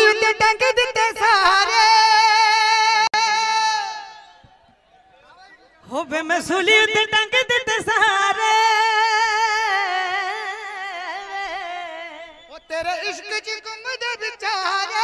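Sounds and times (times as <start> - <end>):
woman singing into microphone: 0.0 - 4.2, 5.9 - 15.0.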